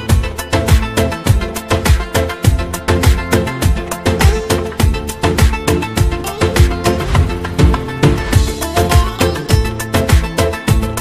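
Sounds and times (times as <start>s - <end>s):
upbeat music with heavy drum beat: 0.0s - 11.0s.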